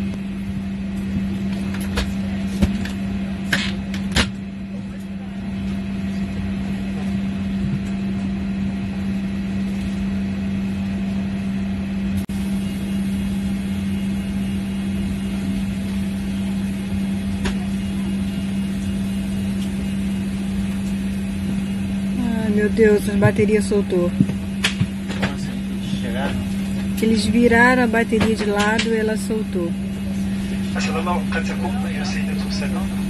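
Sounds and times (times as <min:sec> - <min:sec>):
aircraft cabin machinery drone: 0:00.0 - 0:33.0.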